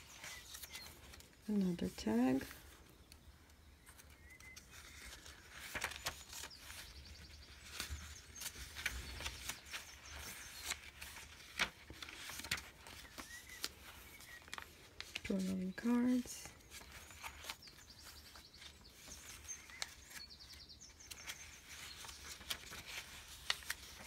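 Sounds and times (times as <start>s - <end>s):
paper pages rustling: 0.0s - 24.0s.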